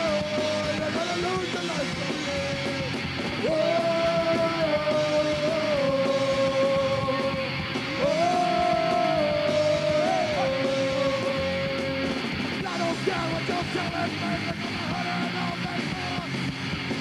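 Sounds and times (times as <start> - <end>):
electric guitar long held notes: 0.0 - 17.0
punk rock band playing live: 0.0 - 17.0.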